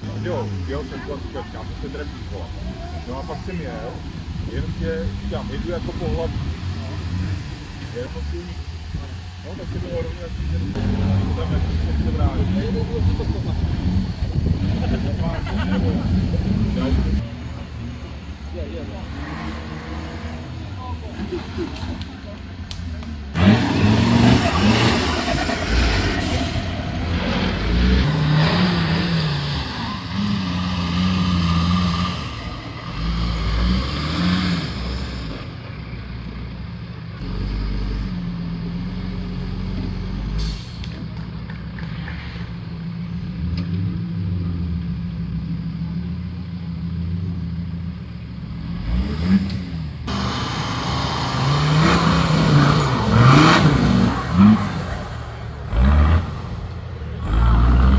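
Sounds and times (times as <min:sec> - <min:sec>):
vehicle engine revving: 0:00.0 - 0:57.9.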